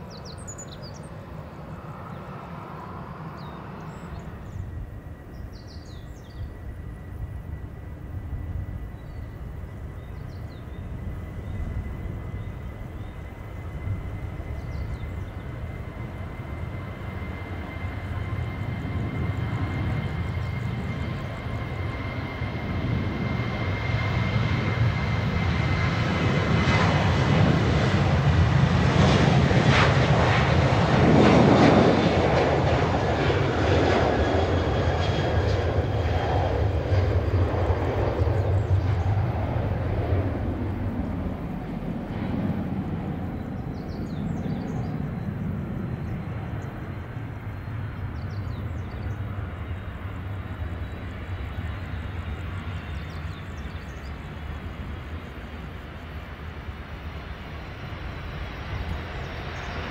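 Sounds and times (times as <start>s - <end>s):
jet engines whining and rumbling: 0.0s - 59.9s.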